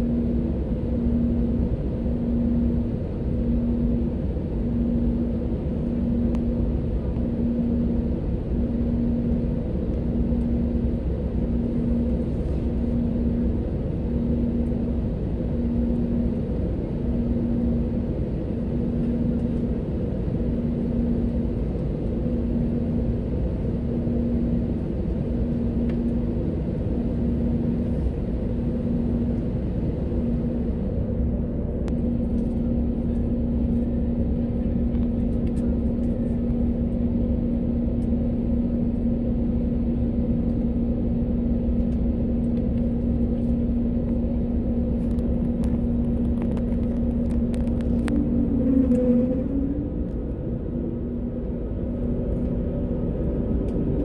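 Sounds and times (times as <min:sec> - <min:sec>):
airliner engine and rolling rumble: 0:00.0 - 0:54.0
pulsing hum: 0:00.0 - 0:54.0.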